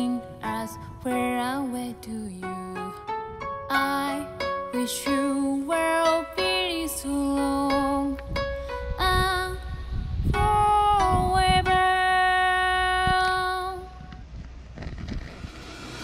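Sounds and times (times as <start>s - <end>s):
gentle melody of held notes: 0.0s - 14.2s.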